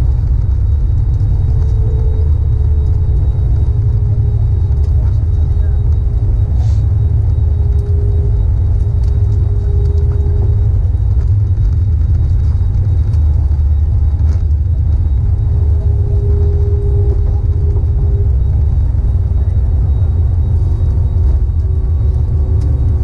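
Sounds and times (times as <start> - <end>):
aircraft engine hum: 0.0 - 23.0
deep cabin rumble: 0.0 - 23.0.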